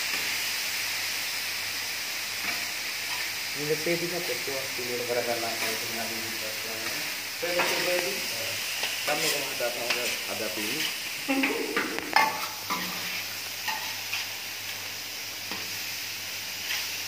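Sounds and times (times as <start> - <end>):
vegetables sizzling on a griddle: 0.0 - 17.0.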